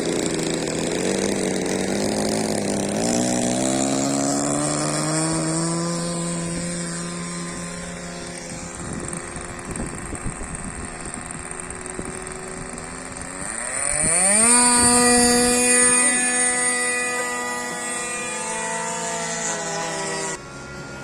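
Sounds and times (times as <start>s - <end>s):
model plane engine: 0.0s - 21.0s.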